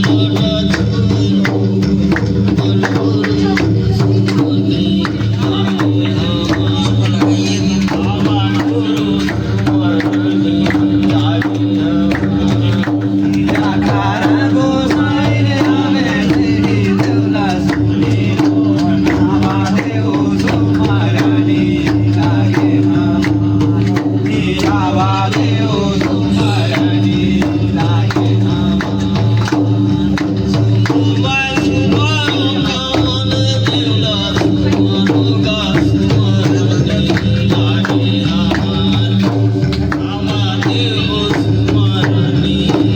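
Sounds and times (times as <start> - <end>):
person singing: 0.0 - 42.9
rhythmic drums: 0.0 - 42.9
steady held drone: 0.0 - 42.9.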